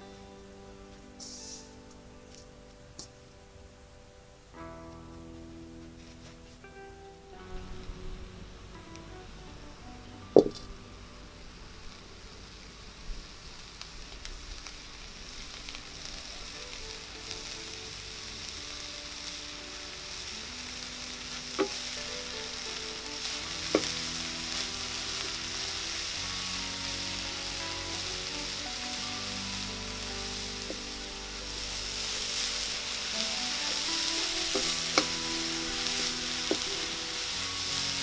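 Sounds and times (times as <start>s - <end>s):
leaves sizzling in a wok: 0.0s - 3.1s, 3.7s - 6.8s, 7.4s - 38.0s.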